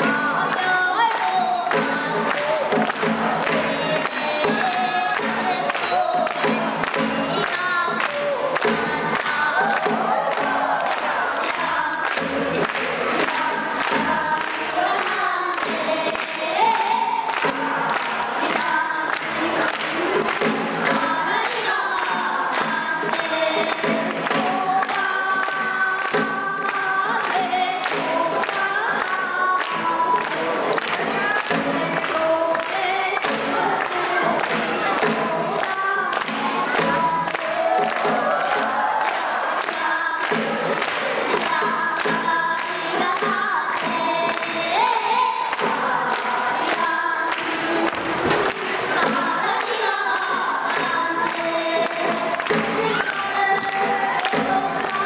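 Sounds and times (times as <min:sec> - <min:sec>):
children singing in unison: 0:00.0 - 0:55.0
drum beat: 0:00.0 - 0:55.0.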